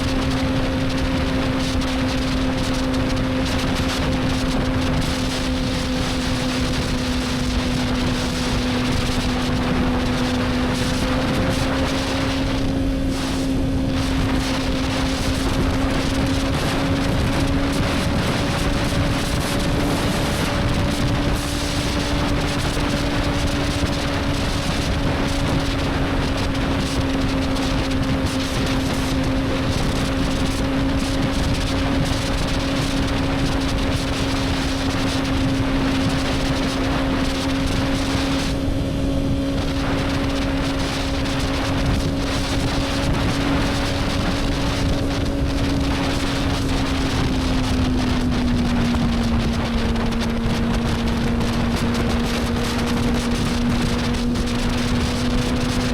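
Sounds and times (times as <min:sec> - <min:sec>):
motorcycle engine cruising: 0:00.0 - 0:55.9
wind rush on microphone: 0:00.0 - 0:55.9.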